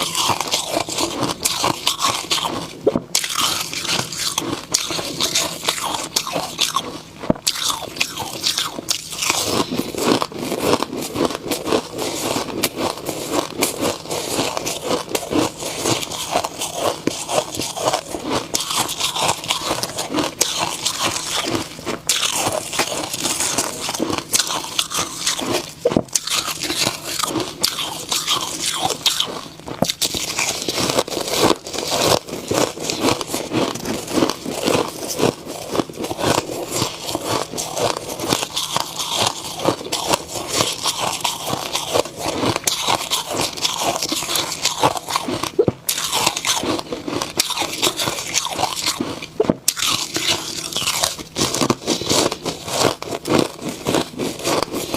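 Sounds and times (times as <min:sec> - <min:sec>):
person chewing snow ice: 0:00.0 - 0:54.9.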